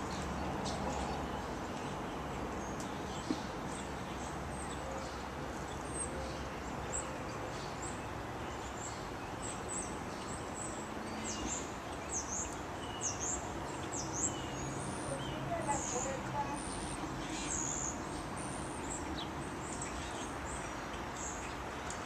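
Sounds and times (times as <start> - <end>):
small birds chirping: 0.0 - 22.0
steady background hiss: 0.0 - 22.0.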